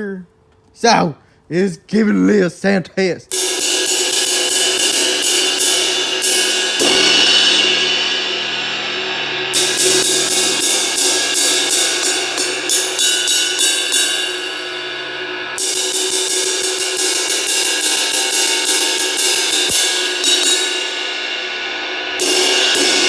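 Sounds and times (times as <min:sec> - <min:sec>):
heavy cymbal hit washing out: 0:03.3 - 0:23.0
ride cymbal strikes: 0:03.3 - 0:23.0.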